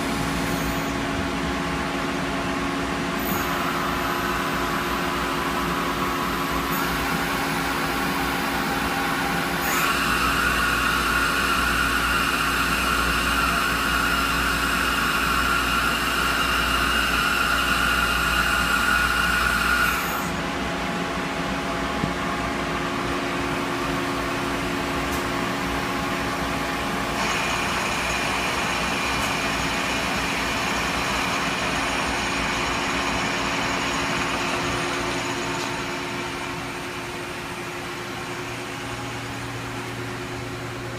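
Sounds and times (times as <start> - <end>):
higher machine whine: 0.0 - 40.9
lathe machine hum: 0.0 - 40.9
machine whine: 0.0 - 40.9.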